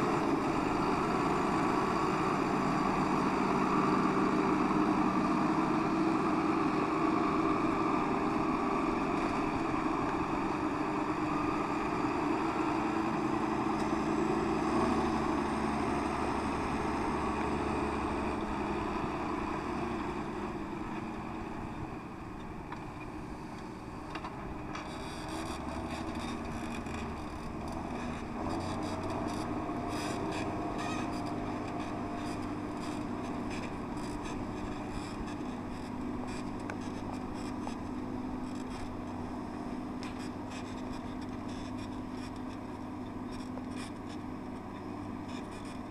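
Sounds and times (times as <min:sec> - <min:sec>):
drone motors humming: 0:00.0 - 0:45.9.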